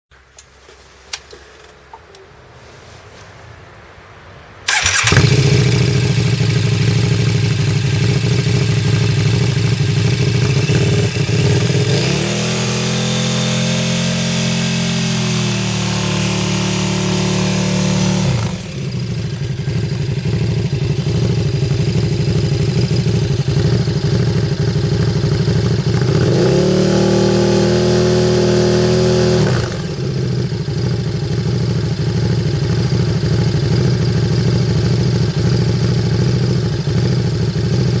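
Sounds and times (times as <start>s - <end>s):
motorcycle engine idling and revving: 4.7s - 38.0s.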